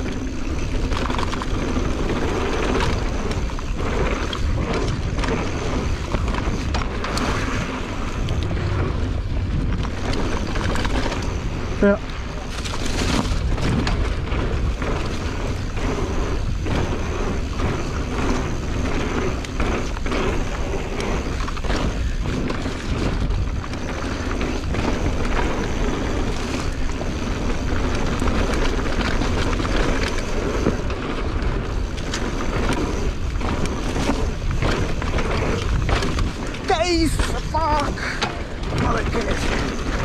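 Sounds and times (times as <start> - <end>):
bike clacking and rattling: 0.0 - 40.0
bike tyres on dirt: 0.0 - 40.0
wind rumble on microphone: 0.0 - 40.0.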